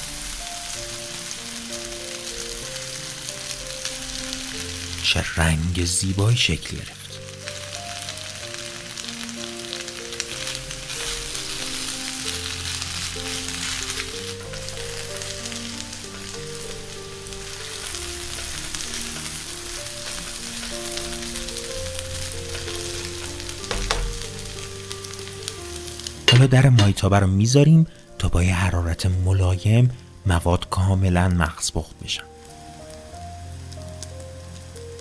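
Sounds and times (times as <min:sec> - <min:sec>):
background music: 0:00.0 - 0:35.0
food sizzling in frying pan: 0:00.0 - 0:35.0.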